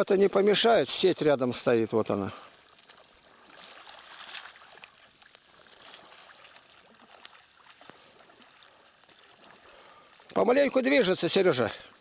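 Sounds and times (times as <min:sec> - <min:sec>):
water splashing and lapping: 0:01.0 - 0:12.0.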